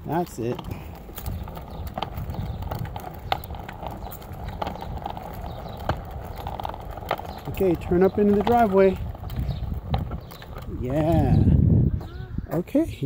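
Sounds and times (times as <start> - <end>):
small bicycle clicks: 0.1 - 11.4.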